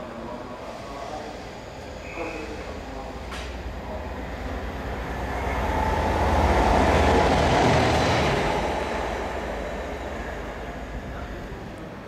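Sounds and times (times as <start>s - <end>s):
diesel locomotive passing: 0.0s - 12.0s.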